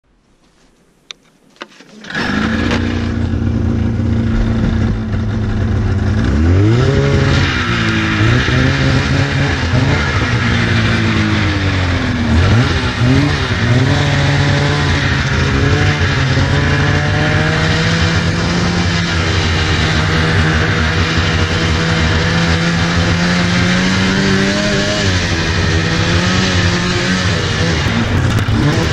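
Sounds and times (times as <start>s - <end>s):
snowmobile engine revving: 1.9s - 28.9s.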